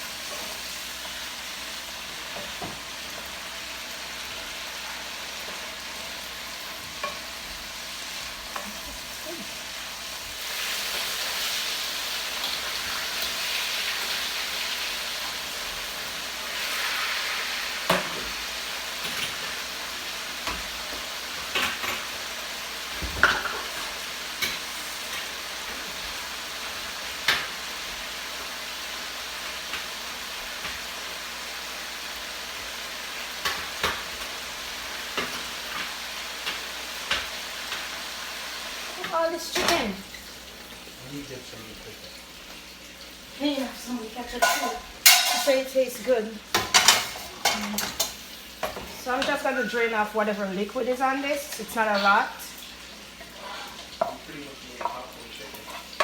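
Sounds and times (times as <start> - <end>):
cabbage sizzling in a pan: 0.0 - 56.0.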